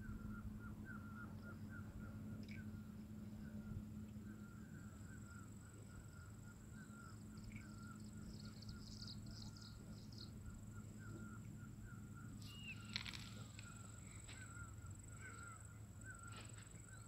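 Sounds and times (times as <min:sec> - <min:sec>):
distant birds chirping: 0:00.0 - 0:17.0
high bird twittering: 0:00.0 - 0:17.0
steady low hum: 0:00.0 - 0:17.0.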